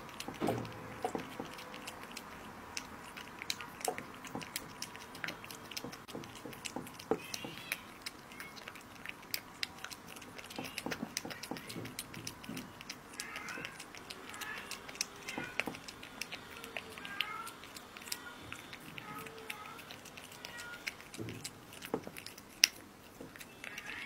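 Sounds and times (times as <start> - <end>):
cat chewing and licking: 0.0 - 24.0.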